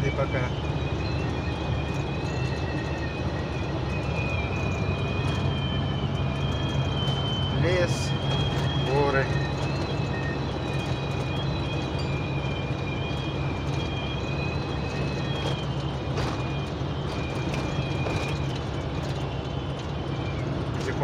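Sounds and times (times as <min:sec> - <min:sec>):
engine and road drone: 0:00.0 - 0:21.0
high wind whistles: 0:00.0 - 0:21.0.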